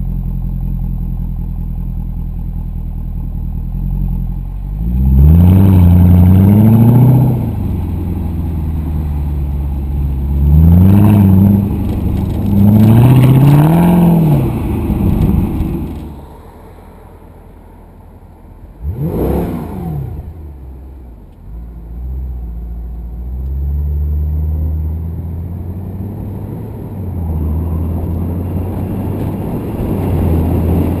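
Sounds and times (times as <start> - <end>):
car engine idling: 0.0 - 31.0
car engine revving: 3.7 - 31.0
car accelerating away: 3.8 - 31.0.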